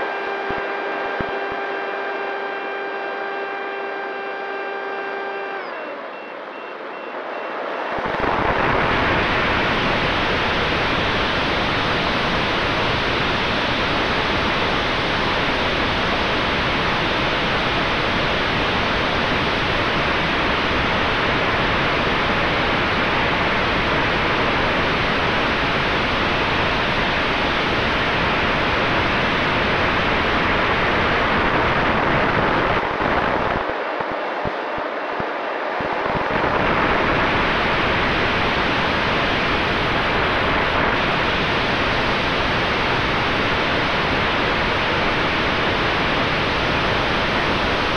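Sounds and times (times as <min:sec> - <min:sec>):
rushing wind: 0:07.8 - 0:47.9.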